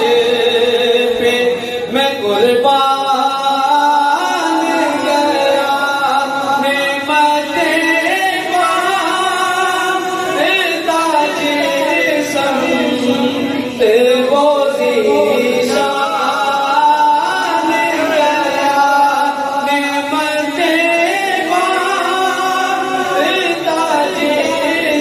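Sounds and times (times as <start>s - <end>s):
man singing devotional poem: 0.0s - 25.0s.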